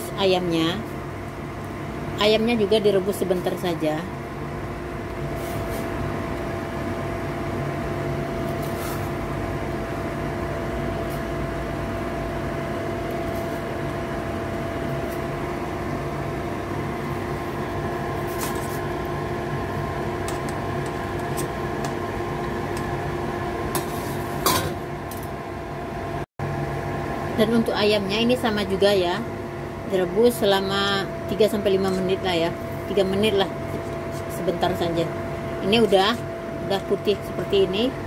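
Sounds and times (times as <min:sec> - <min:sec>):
steady machine hum: 0:00.0 - 0:38.0.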